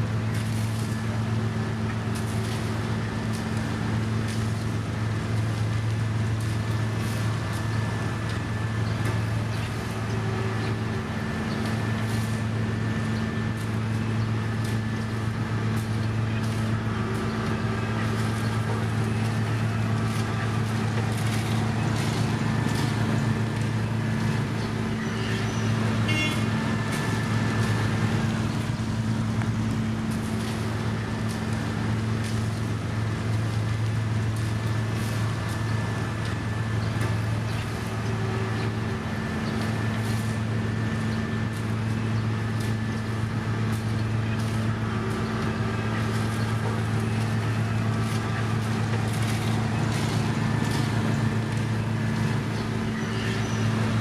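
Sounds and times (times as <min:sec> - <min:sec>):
heavy diesel engine humming: 0:00.0 - 0:54.0.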